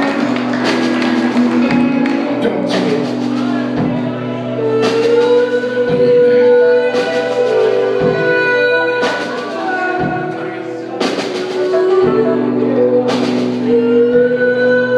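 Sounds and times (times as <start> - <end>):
live band playing held chords: 0.0 - 14.9.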